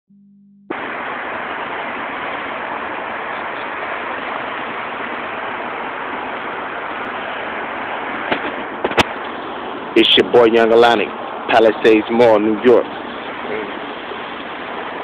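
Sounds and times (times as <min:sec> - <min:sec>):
outdoor background hiss: 0:00.7 - 0:15.0.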